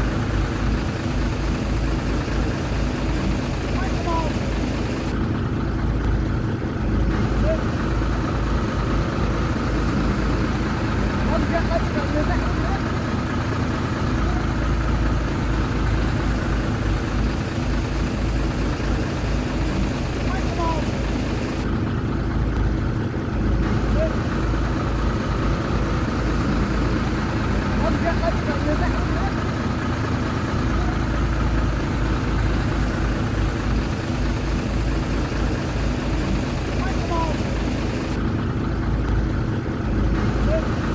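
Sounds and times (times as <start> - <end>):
diesel engine running at low revs: 0.0 - 40.9.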